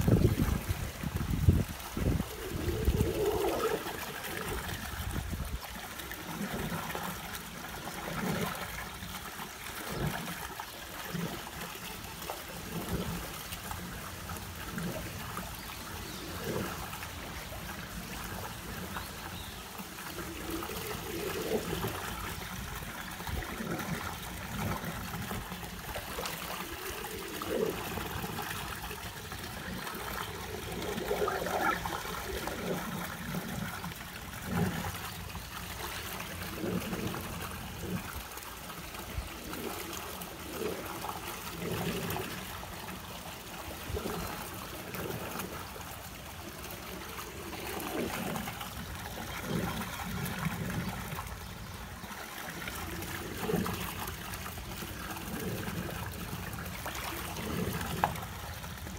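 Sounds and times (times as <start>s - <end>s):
water trickling in a pool: 0.0s - 58.9s.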